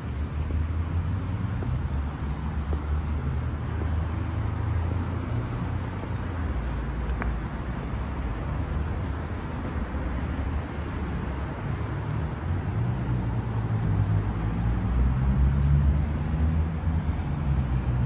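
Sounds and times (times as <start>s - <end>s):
city street traffic: 0.0s - 18.0s
engine low rumble: 0.0s - 18.0s.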